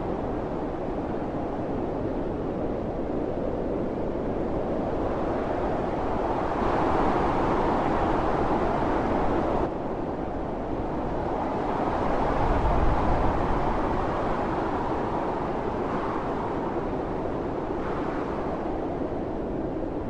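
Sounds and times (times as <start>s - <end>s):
strong wind gusting: 0.0s - 20.0s.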